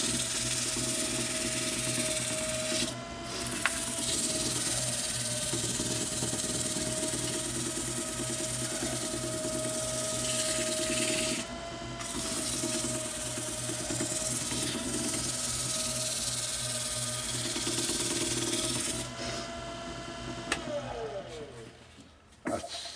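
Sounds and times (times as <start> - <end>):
lathe motor hum: 0.0 - 22.0.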